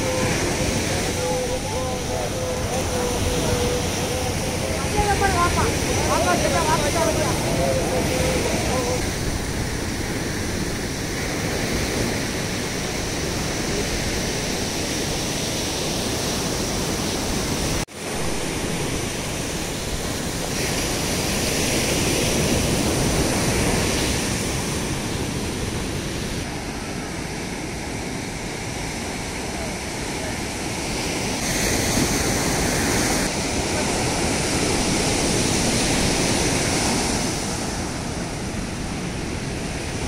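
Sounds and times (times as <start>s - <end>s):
sea surf breaking: 0.0s - 40.0s.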